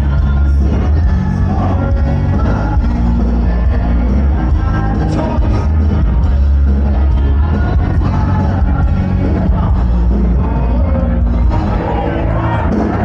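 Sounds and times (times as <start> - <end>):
live band playing amplified music: 0.0 - 13.0
person singing: 0.0 - 13.0
steady bass line: 0.0 - 13.0.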